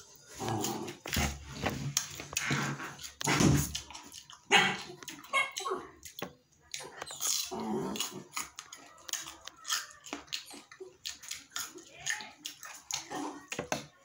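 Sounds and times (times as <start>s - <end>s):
crunching fruit chewing: 0.0s - 14.0s.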